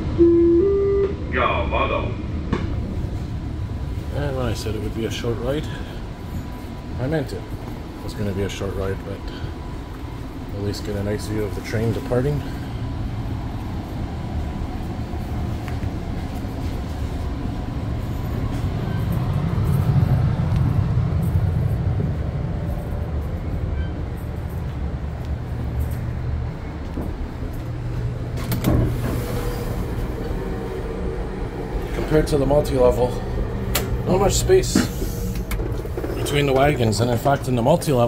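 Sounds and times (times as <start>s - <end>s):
train rumbling from inside coach: 0.0s - 38.0s.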